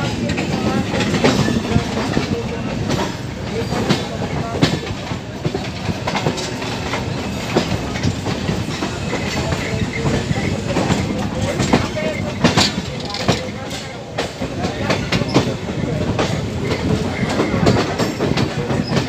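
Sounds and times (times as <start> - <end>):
train running rumble: 0.0 - 19.0
wheels clacking over rail joints: 0.0 - 19.0.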